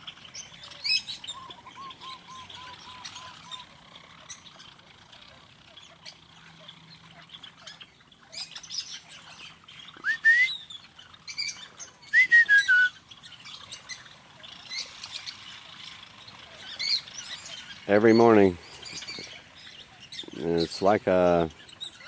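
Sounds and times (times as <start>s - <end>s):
birds chirping and calling: 0.0s - 22.0s
loud whistled bird calls: 0.0s - 22.0s
sharp squawk-like bird calls: 0.0s - 22.0s.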